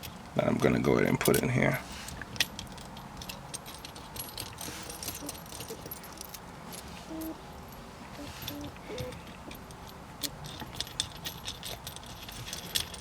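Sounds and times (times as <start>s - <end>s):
metal bolts clinking: 0.0s - 1.7s, 2.3s - 7.3s, 8.2s - 13.0s.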